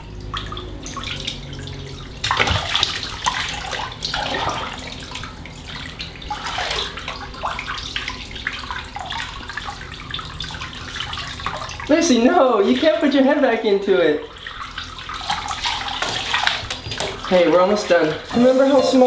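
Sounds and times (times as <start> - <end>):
water splashing in a bathtub: 0.0 - 19.0.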